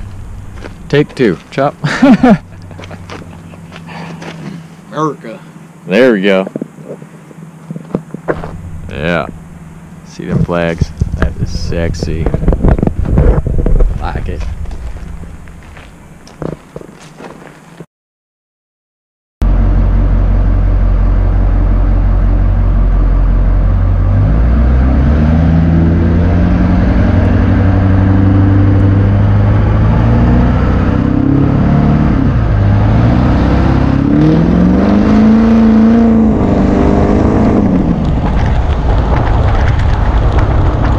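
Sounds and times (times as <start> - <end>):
diesel pickup engine accelerating: 0.0 - 17.6, 19.4 - 40.9.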